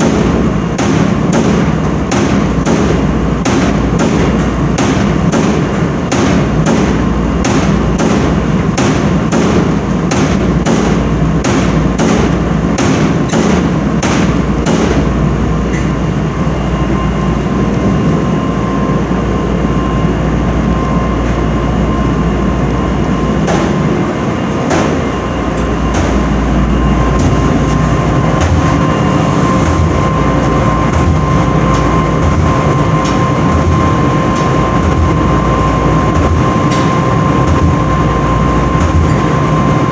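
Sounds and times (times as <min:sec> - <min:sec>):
thin steady whine: 0:00.0 - 0:39.9
tumble dryer rumbling: 0:00.0 - 0:39.9.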